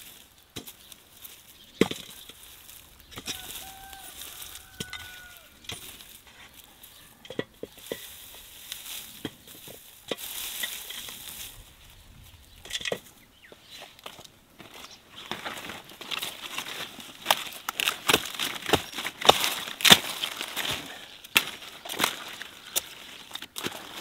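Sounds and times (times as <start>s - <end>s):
rustling of dry plants and soil: 0.0s - 24.0s.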